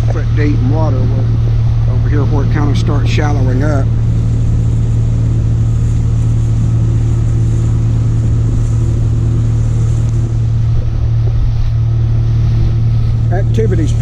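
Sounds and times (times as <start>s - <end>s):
boat motor running: 0.0s - 14.0s.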